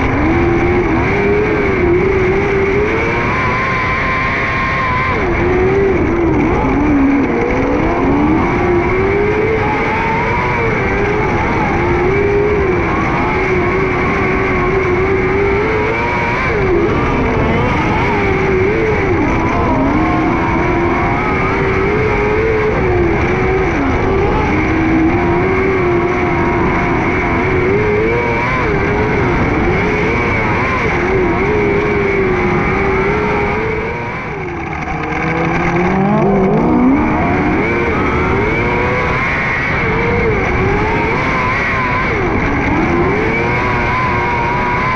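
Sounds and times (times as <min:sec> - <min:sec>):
racing car engine running hard: 0:00.0 - 0:44.9.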